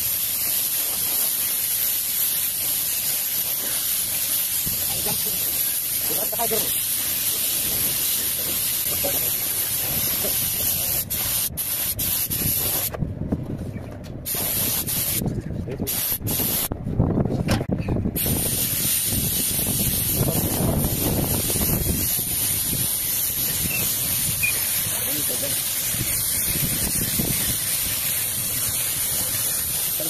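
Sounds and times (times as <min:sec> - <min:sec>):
paint spray gun hissing: 0:00.0 - 0:12.9, 0:14.3 - 0:15.2, 0:15.9 - 0:16.7, 0:18.2 - 0:30.0.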